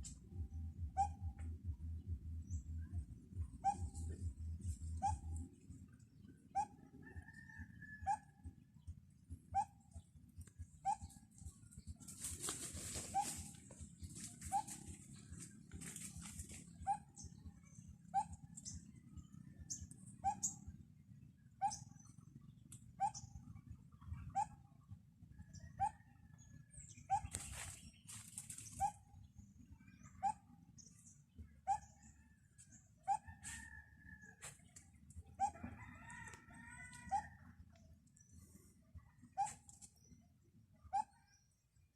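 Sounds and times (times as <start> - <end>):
bird calling: 0.0 - 20.8, 21.4 - 24.8, 25.4 - 41.6.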